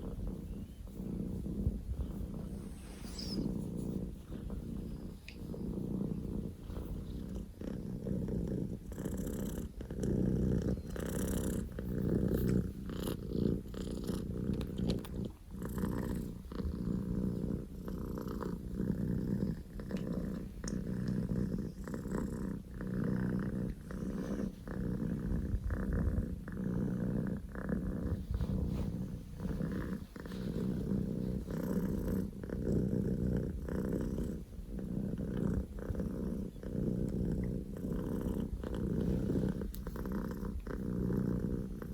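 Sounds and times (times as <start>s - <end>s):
kitten purring loudly: 0.0s - 41.9s.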